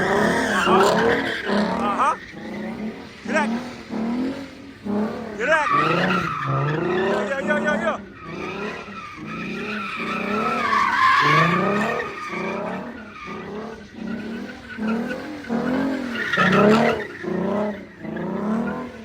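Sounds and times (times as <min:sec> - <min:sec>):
car engine revving hard: 0:00.0 - 0:19.0
tires squealing on pavement: 0:00.0 - 0:19.0.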